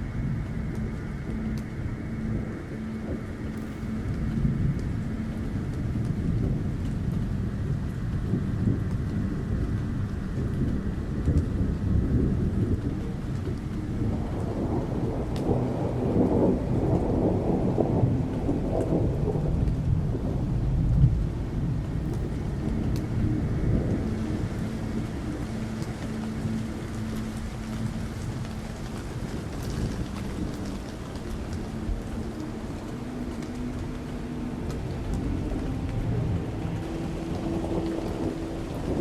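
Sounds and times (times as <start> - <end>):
deep thunder-like rumbling: 0.0 - 39.0
rain-like hiss: 0.0 - 39.0.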